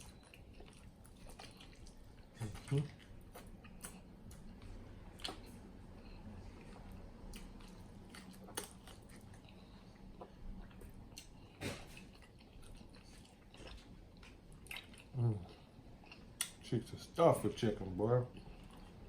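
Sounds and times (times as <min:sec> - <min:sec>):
person chewing wetly: 0:00.0 - 0:16.6, 0:18.3 - 0:19.0.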